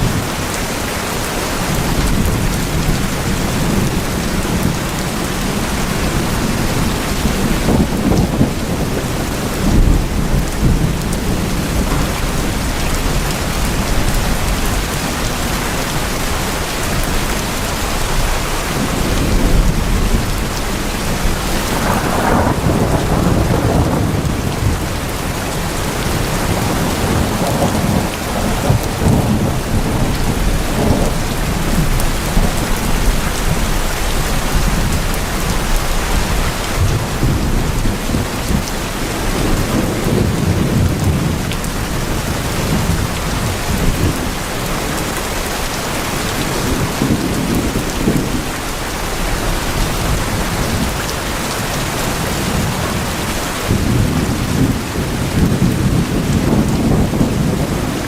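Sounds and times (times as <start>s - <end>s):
heavy rain on tin roofs: 0.0s - 58.0s.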